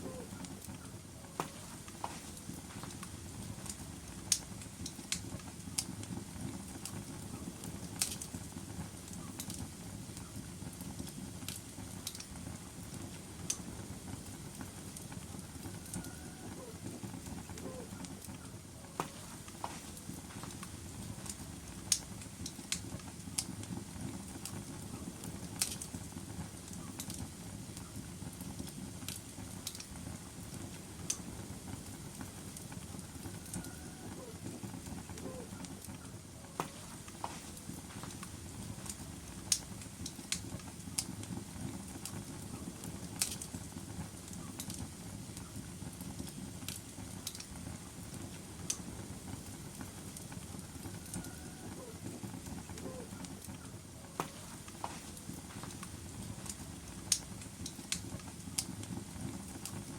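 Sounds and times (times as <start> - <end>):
fire crackling and popping: 0.0 - 59.9
fire flames rumbling: 0.0 - 59.9.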